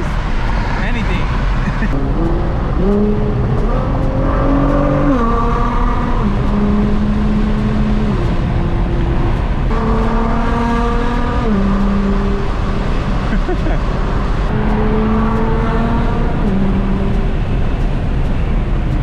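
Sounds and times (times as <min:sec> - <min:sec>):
car engine shifting gears: 0:00.0 - 0:19.0
road noise: 0:00.0 - 0:19.0.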